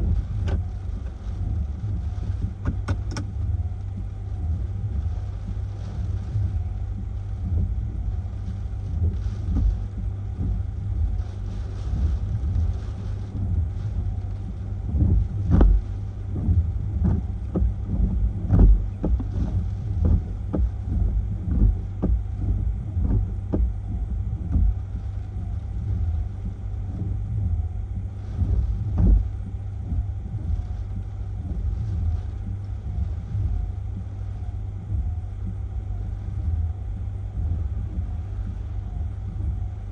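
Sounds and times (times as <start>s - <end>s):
sharp wind thumps: 0.0s - 39.9s
wind buffeting microphone: 0.0s - 39.9s.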